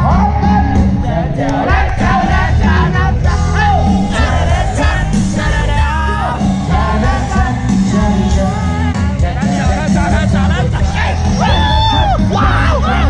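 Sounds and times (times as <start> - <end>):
live rock band: 0.0 - 13.0
person singing: 0.0 - 13.0.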